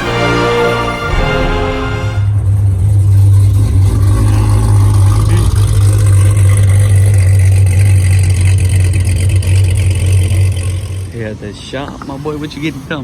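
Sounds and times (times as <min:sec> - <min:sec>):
car engine idling with low drone: 0:02.2 - 0:13.0.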